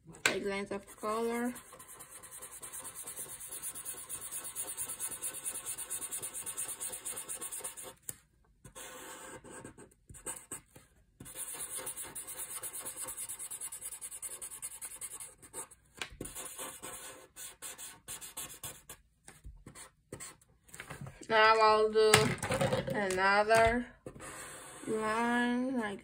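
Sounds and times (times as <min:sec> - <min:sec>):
marker scratching across paper: 0:00.6 - 0:20.4, 0:24.0 - 0:25.1.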